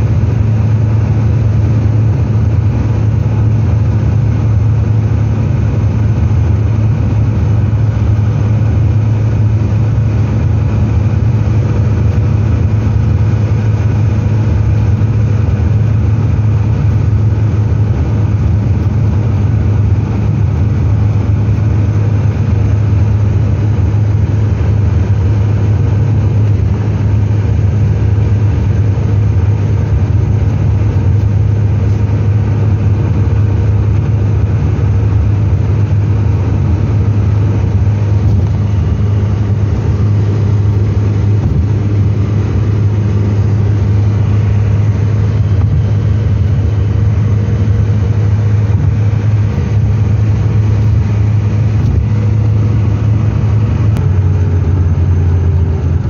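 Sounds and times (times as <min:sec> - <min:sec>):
car engine drone: 0:00.0 - 0:56.0
road noise hiss: 0:00.0 - 0:56.0.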